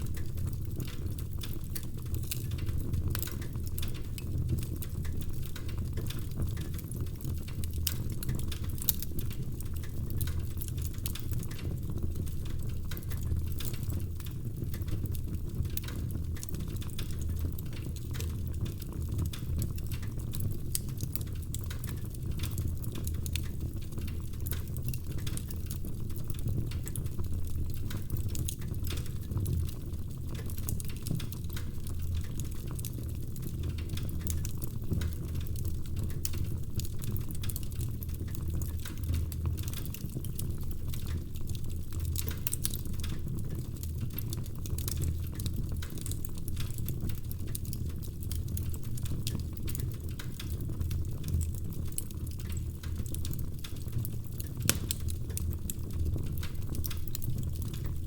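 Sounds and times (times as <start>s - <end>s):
low rumble of burning logs: 0.0s - 58.0s
wood fire pops and snaps: 0.0s - 58.0s.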